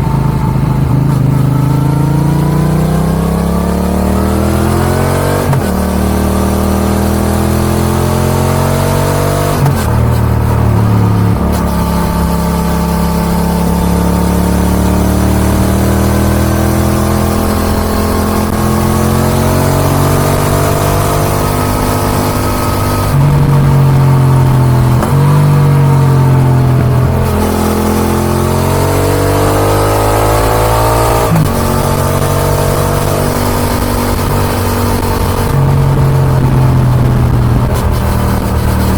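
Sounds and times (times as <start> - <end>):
motorcycle engine revving: 0.0 - 38.9
gear changes: 3.0 - 38.9.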